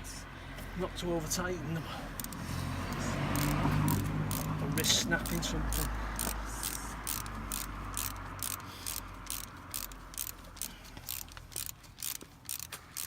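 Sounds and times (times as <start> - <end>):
socket ratchet clicking: 2.2 - 13.0.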